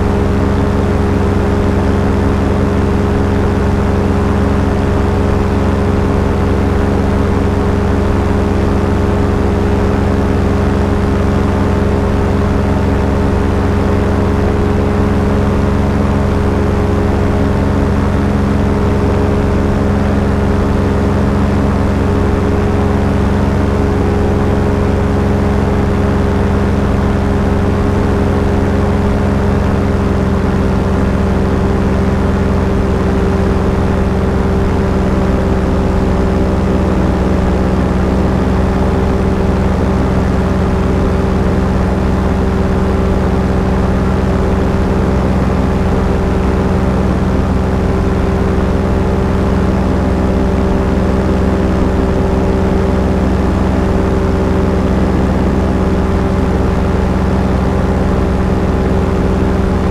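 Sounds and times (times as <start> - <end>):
aircraft piston engine droning: 0.0 - 59.9.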